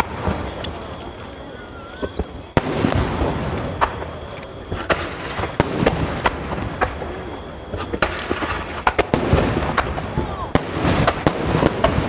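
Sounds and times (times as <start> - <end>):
firework rumble and crackle: 0.0 - 12.0
firework shells booming: 0.0 - 12.0.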